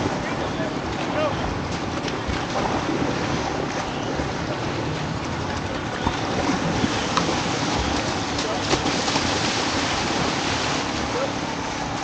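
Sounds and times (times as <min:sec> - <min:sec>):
small waves lapping on shore: 0:00.0 - 0:12.0.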